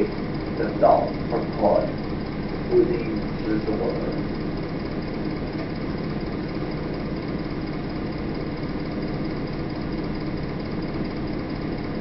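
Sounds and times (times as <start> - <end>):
steady low rumbling: 0.0 - 9.8.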